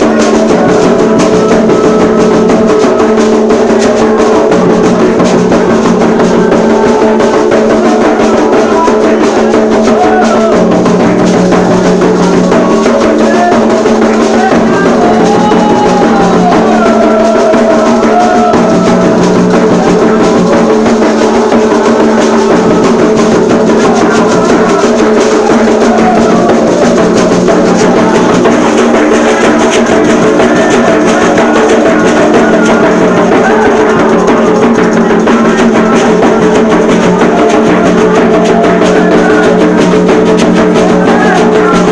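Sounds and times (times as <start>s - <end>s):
hand drums playing steady beat: 0.0s - 41.9s.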